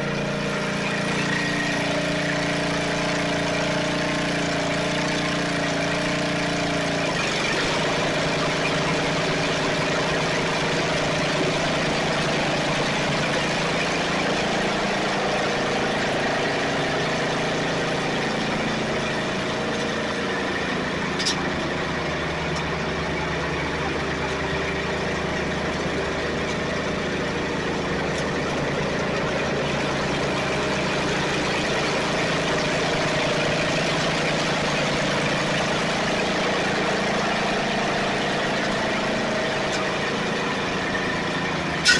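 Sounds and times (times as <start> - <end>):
riding mower engine running: 0.0 - 41.9.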